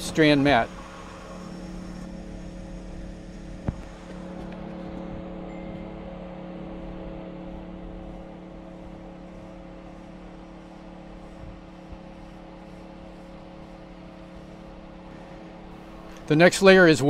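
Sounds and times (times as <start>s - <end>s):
machine hum with held tones: 0.0s - 17.0s.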